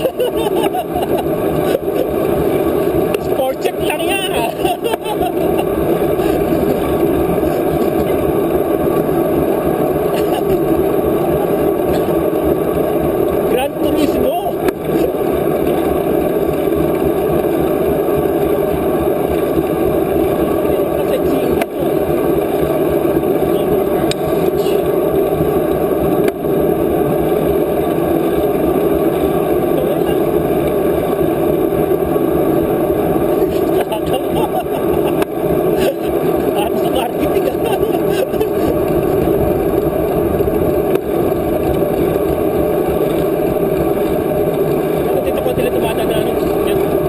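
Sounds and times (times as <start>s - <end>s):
bicycle tyres rolling on trail: 0.0s - 47.0s.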